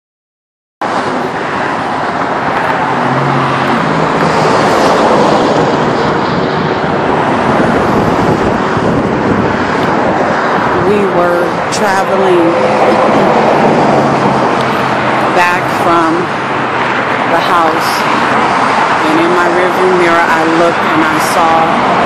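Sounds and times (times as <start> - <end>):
freeway traffic rushing: 0.8 - 22.0.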